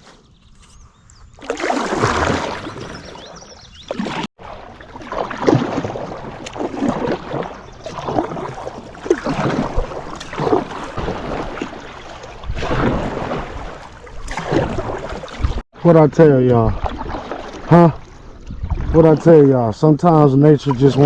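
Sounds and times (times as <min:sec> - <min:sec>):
paddle strokes splashing: 0:00.0 - 0:15.7, 0:16.4 - 0:21.0
water noise: 0:00.0 - 0:21.0.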